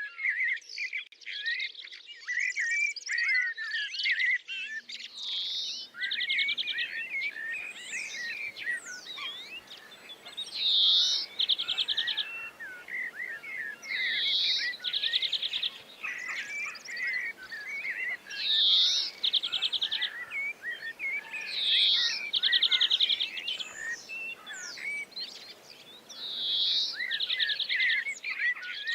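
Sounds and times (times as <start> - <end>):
birds chirping: 4.6 - 28.9.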